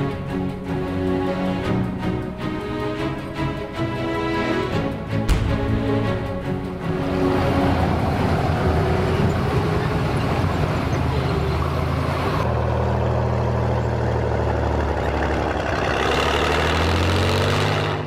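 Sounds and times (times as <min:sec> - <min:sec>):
tank engine running: 0:00.0 - 0:18.0.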